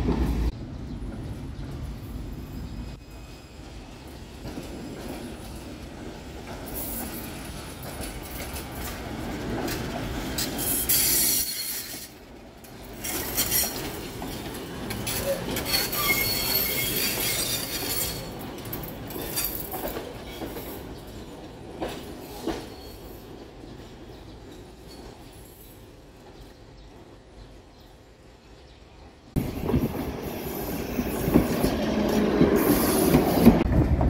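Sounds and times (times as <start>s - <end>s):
tram wheels squealing: 0.1s - 26.5s, 29.4s - 33.7s.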